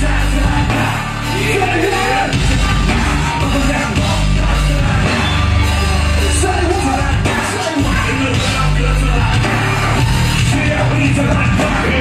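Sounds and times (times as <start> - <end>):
shouted vocal: 0.0 - 10.4
crowd yelling: 0.0 - 12.0
live rap-rock band playing: 0.0 - 12.0.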